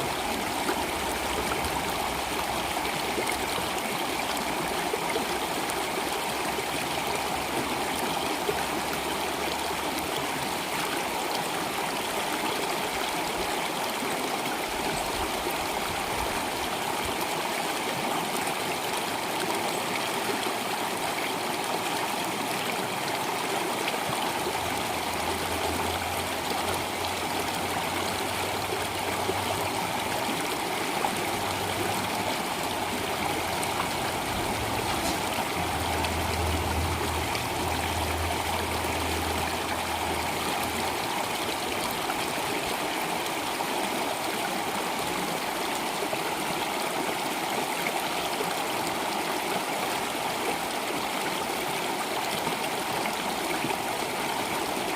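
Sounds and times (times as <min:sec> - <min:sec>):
stream flowing and trickling: 0:00.0 - 0:54.9.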